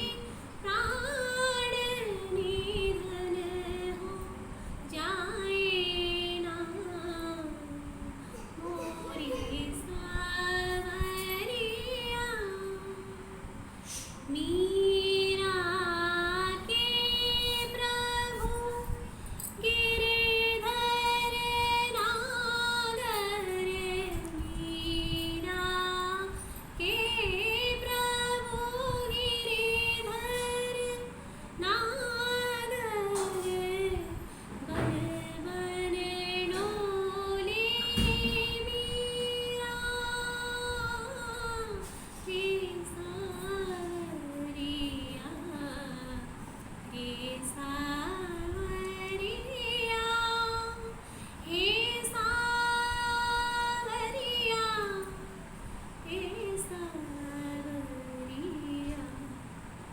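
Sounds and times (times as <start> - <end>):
woman singing: 0.0 - 13.5, 14.2 - 59.6.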